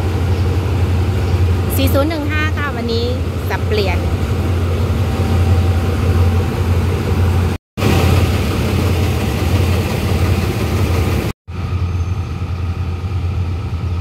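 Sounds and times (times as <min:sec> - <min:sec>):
diesel locomotive engine humming: 0:00.0 - 0:14.0.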